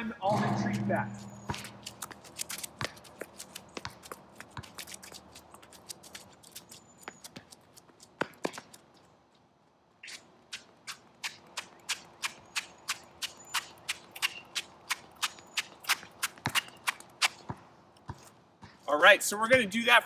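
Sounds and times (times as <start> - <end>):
shoes tapping and scuffing on ground: 0.3 - 19.8.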